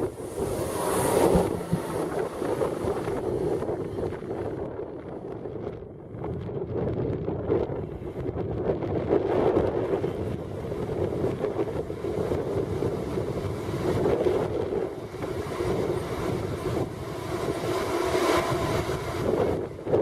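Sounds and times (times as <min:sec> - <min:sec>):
train running past: 0:00.0 - 0:05.3, 0:09.2 - 0:20.0
wind buffeting microphone: 0:00.0 - 0:20.0.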